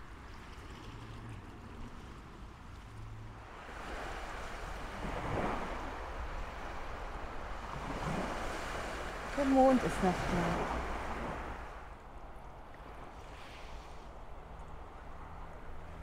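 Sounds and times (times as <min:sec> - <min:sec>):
sea waves washing onto beach: 0:01.8 - 0:16.0.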